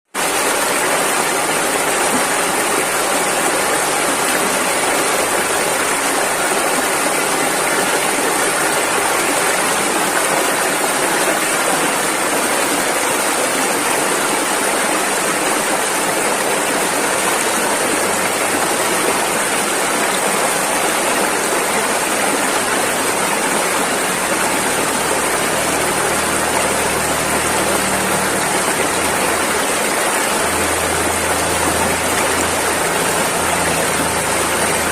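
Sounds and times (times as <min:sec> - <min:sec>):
river water rushing: 0:00.2 - 0:34.9.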